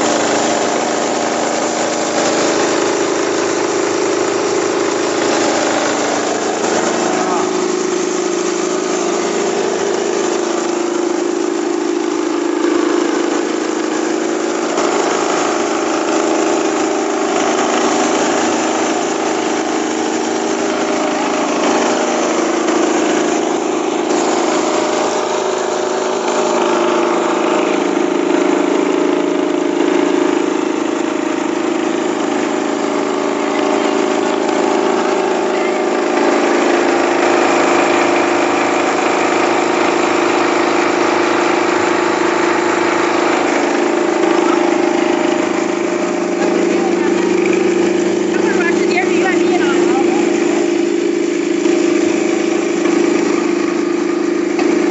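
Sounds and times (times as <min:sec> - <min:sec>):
grain streaming through mill: 0:00.0 - 0:54.9
rice milling machine humming: 0:00.0 - 0:54.9.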